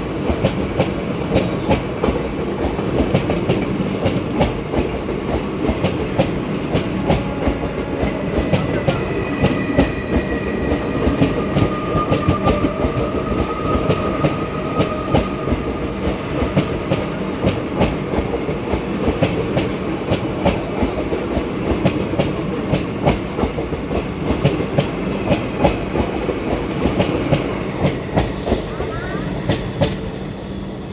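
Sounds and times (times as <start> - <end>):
train rumble: 0.0 - 30.9.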